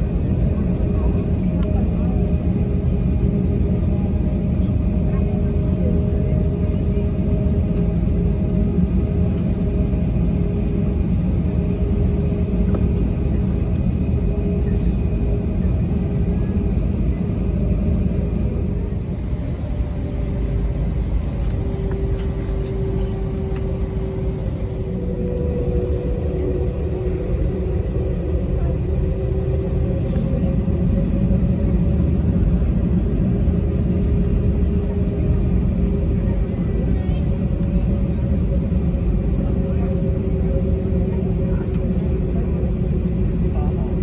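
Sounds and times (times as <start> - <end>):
aircraft cabin engine rumble: 0.0 - 44.0
faint hum: 0.0 - 44.0.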